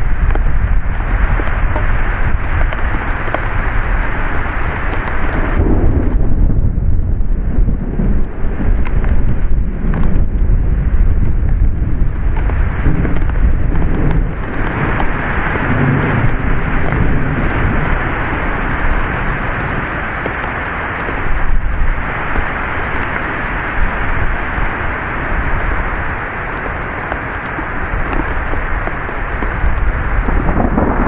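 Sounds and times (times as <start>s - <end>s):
deep thunder rumble: 0.0s - 31.0s
gusty wind buffeting microphone: 0.0s - 31.0s
heavy rain pouring: 0.0s - 31.0s.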